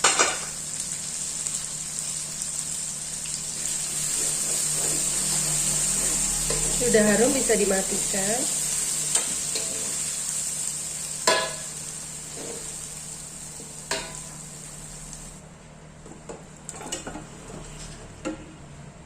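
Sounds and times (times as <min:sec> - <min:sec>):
spice paste sizzling in oil: 0:00.0 - 0:15.4.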